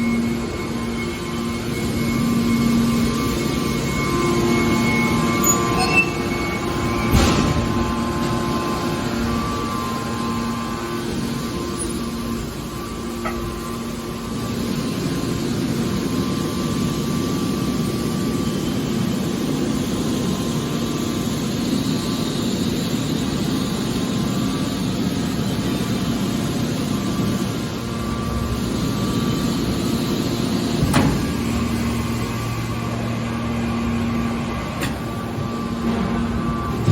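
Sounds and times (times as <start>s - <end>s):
hydraulic baler motor humming: 0.0s - 17.6s, 24.2s - 36.9s.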